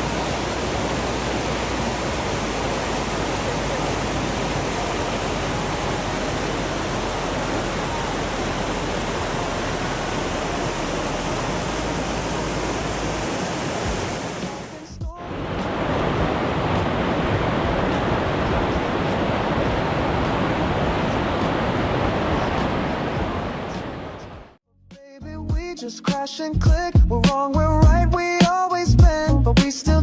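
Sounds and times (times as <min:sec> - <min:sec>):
rushing water: 0:00.0 - 0:24.6.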